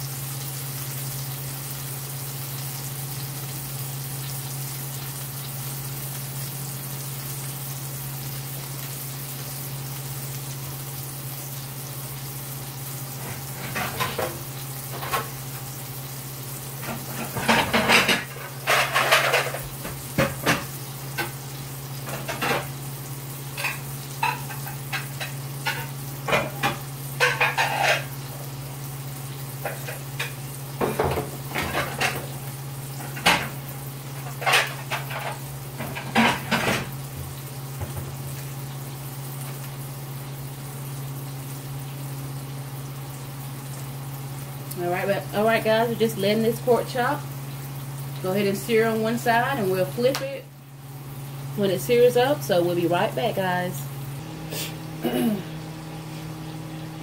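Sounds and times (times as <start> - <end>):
meat sizzling in skillet: 0.0 - 57.0.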